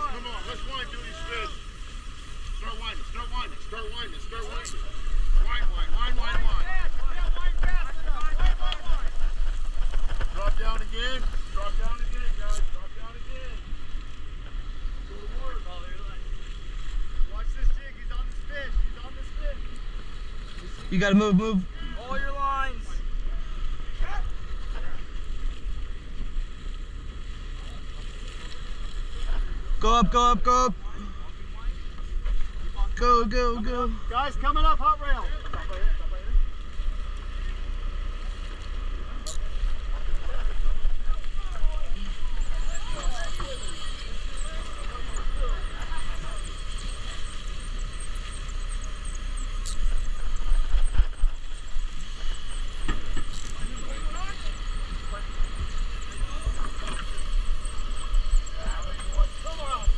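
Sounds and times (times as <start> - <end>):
boat engine rumble: 0.0 - 59.9
wind and water noise: 0.0 - 59.9.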